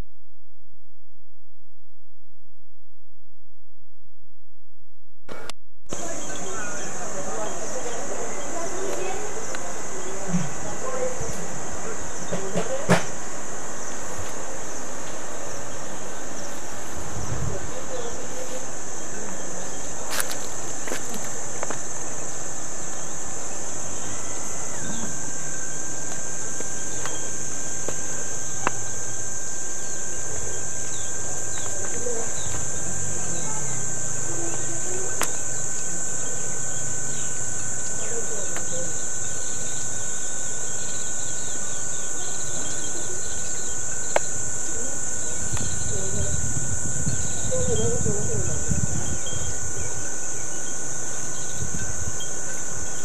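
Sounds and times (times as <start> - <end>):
insects droning: 5.3 - 53.0.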